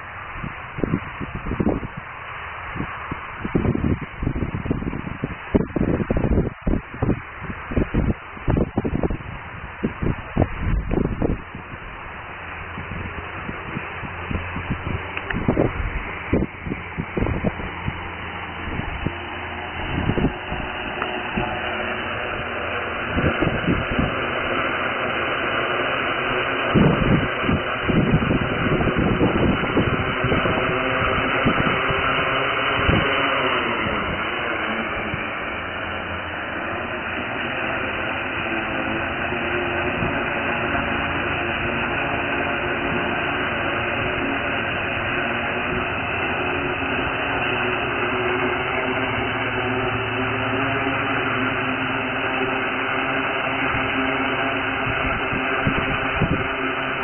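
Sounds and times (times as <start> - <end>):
drone motors whirring: 0.0 - 57.0
wind rumble on microphone: 0.0 - 57.0.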